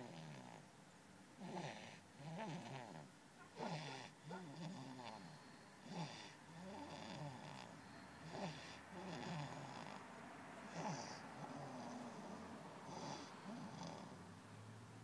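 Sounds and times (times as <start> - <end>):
snoring: 0.0 - 0.6, 1.4 - 10.0, 10.6 - 14.2.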